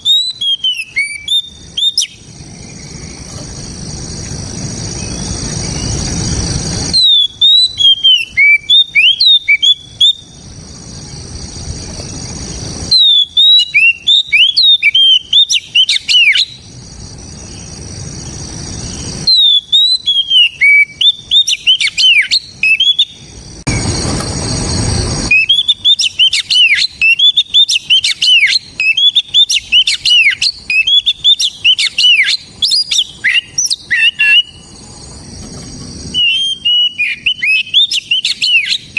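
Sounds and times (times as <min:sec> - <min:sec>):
bird singing whistled notes: 0:00.0 - 0:35.0, 0:36.0 - 0:38.9.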